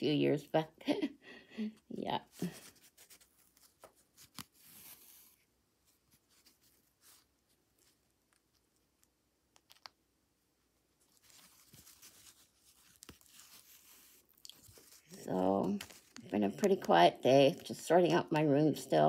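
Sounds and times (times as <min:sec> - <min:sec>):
needle and thread through cloth: 0:02.0 - 0:09.7, 0:10.8 - 0:19.0.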